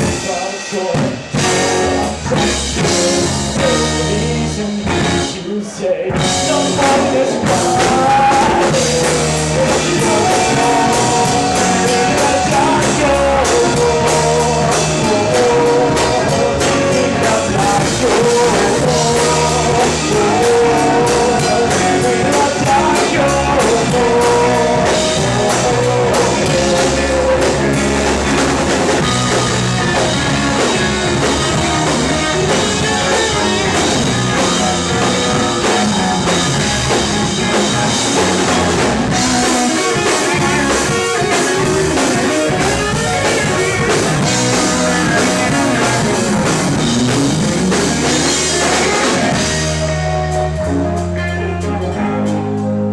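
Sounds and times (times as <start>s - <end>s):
rock band playing loudly: 0.0s - 52.9s.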